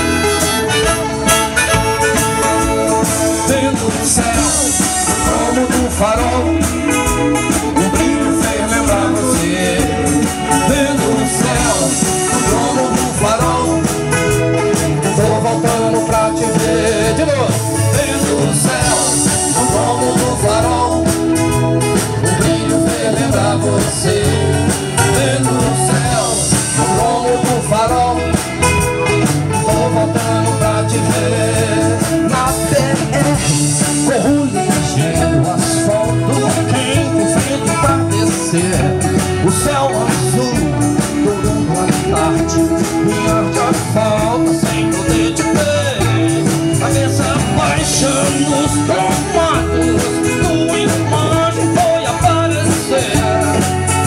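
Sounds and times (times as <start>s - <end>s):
banjo: 0.0s - 54.0s
live country band playing: 0.0s - 54.0s
steady drumbeat: 0.0s - 54.0s.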